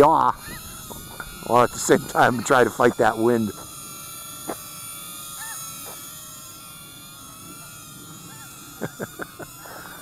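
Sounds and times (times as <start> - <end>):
quadcopter propellers whining: 0.0 - 10.0.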